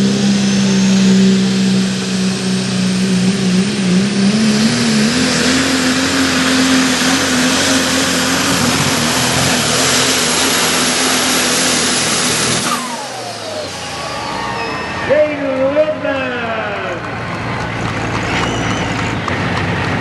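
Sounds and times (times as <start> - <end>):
heavy exhaust: 0.0 - 20.0
truck engine at high revs: 0.0 - 20.0.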